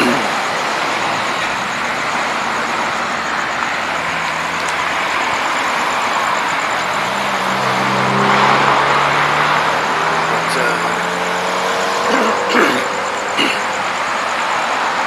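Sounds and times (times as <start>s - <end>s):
traffic passing: 0.0s - 15.0s
vehicle engine hum: 0.0s - 15.0s.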